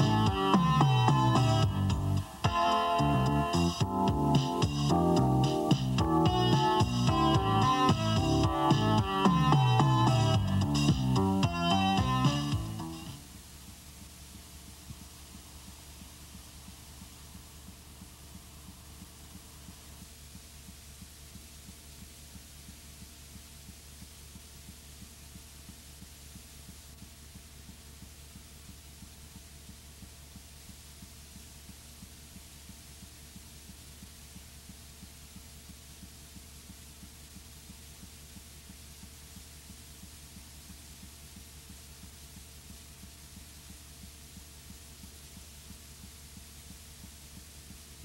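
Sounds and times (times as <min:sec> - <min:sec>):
blank videotape hum and hiss: 0:00.0 - 0:48.0.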